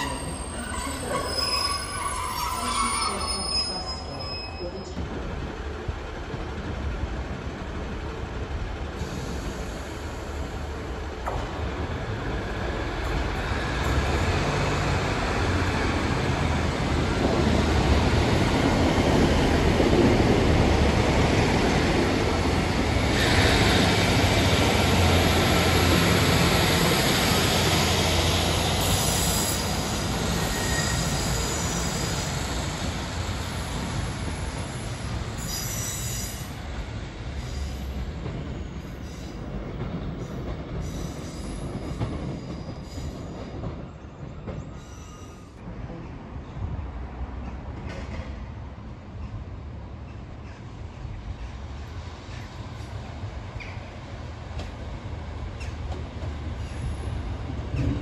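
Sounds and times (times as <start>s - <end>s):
train passing: 0.0s - 58.0s.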